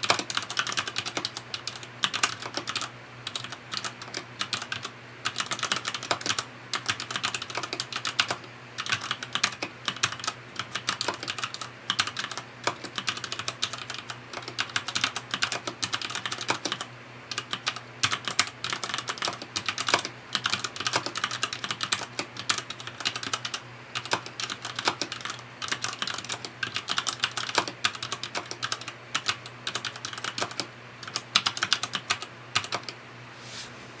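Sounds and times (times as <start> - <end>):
mechanical keyboard typing: 0.0 - 33.0.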